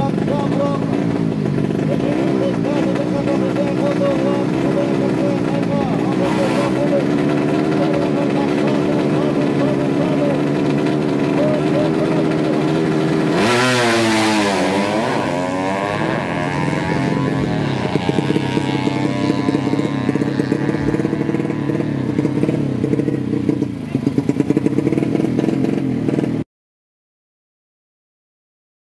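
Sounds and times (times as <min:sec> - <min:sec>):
motorcycle engine choppy running: 0:00.0 - 0:26.4
motorcycle engine revving hard: 0:00.0 - 0:26.4.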